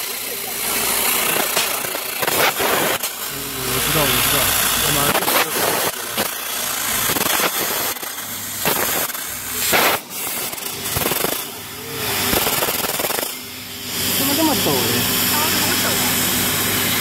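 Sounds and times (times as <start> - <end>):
laser cutter hissing: 0.0 - 17.0.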